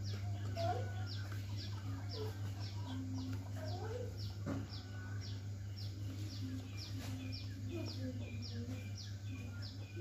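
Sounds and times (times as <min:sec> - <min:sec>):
bird chirping: 0:00.0 - 0:10.0
bird clucking calls: 0:00.0 - 0:10.0
steady low hum: 0:00.0 - 0:10.0.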